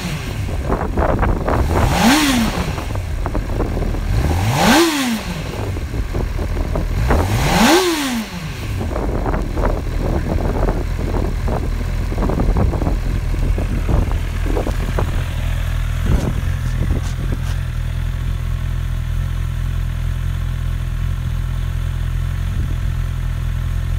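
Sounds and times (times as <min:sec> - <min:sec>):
motorcycle engine revving and idling: 0:00.0 - 0:23.9.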